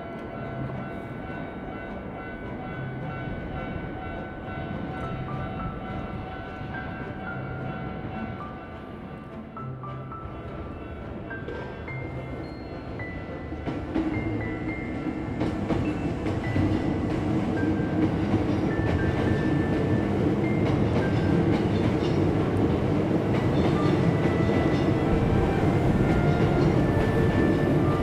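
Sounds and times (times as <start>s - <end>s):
crossing warning bell: 0.0s - 9.3s, 10.8s - 28.0s
electric train passing: 0.0s - 28.0s.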